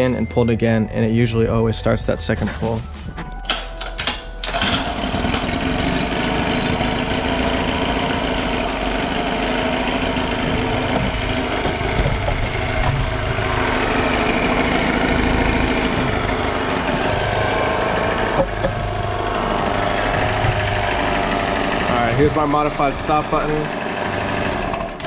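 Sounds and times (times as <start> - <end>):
recoil starter cord pull: 3.5 - 25.0
outboard motor running: 4.4 - 25.0.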